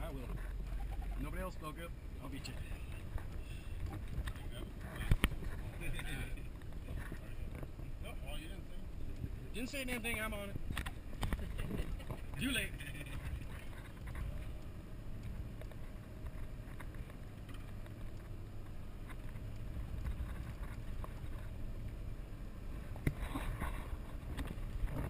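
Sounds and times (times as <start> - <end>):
muffled engine rumble: 0.0 - 25.0.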